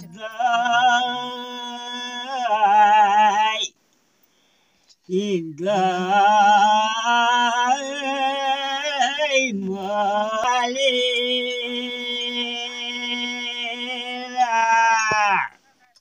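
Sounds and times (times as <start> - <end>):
man singing unaccompanied: 0.0 - 3.8, 5.0 - 15.6.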